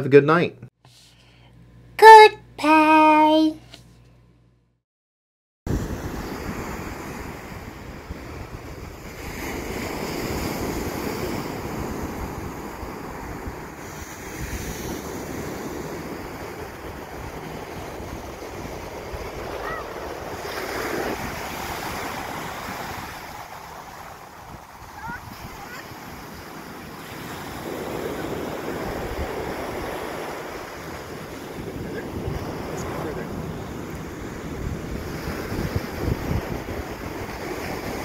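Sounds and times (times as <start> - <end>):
ocean surf washing onto beach: 5.7 - 38.0
wind rumbling on microphone: 5.7 - 38.0.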